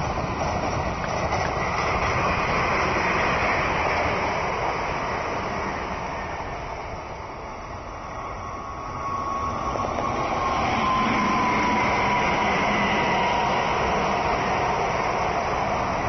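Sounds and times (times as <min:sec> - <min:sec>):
wheels rumbling on rails: 0:00.0 - 0:16.0.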